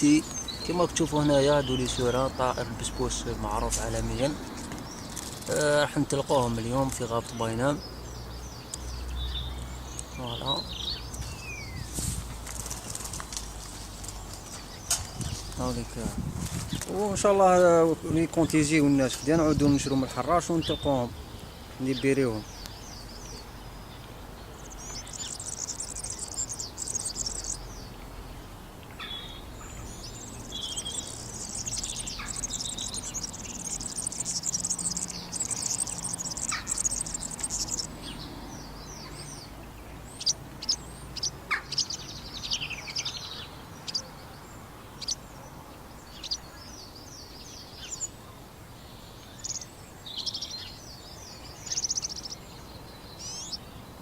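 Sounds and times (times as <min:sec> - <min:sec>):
bird chirps and call notes: 0:00.0 - 0:12.0, 0:16.7 - 0:45.3, 0:46.0 - 0:48.2, 0:48.9 - 0:53.8
birds singing jingling trills: 0:00.0 - 0:54.0.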